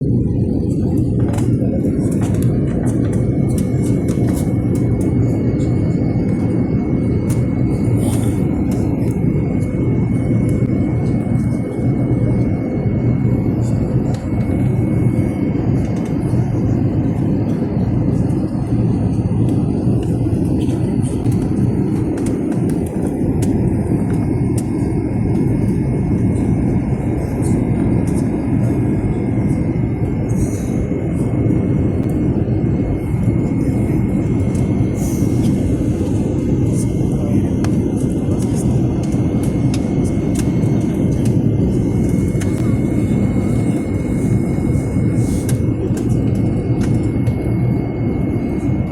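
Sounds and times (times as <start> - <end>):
low drone of engines and airflow: 0.0 - 48.9
faint high whine: 0.1 - 48.9.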